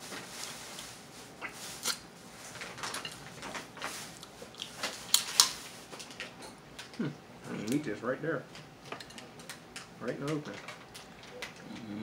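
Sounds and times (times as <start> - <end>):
close-up eating sounds: 0.0 - 12.0.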